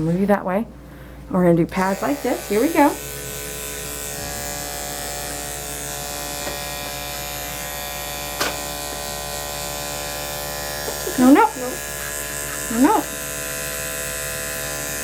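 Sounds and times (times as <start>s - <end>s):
electric clippers running: 1.7s - 15.0s.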